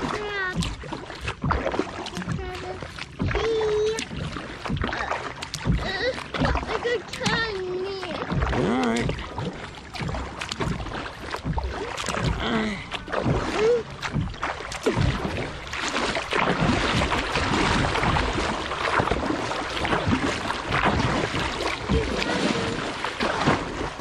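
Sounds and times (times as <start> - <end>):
paddle strokes splashing: 0.0 - 24.0
river water rushing: 1.6 - 24.0.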